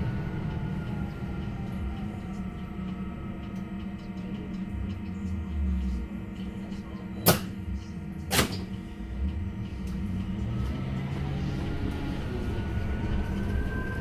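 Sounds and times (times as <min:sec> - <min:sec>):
electric bus hum with held tones: 0:00.0 - 0:14.0
low rumble: 0:00.0 - 0:14.0.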